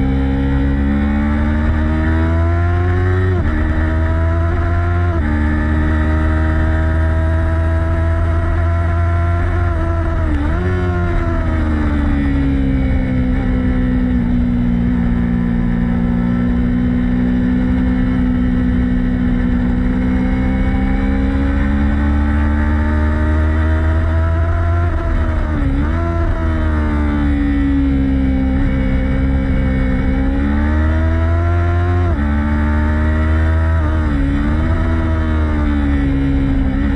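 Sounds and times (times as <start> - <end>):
motorcycle engine running hard: 0.0 - 36.9.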